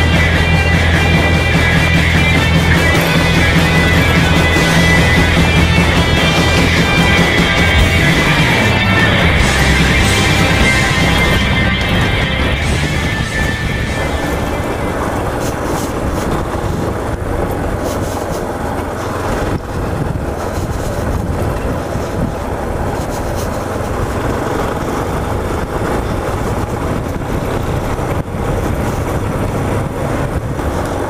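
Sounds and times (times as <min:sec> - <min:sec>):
motorcycle engine running: 0:00.0 - 0:31.0
tyre noise on gravel: 0:00.0 - 0:31.0
wind on microphone: 0:00.0 - 0:31.0.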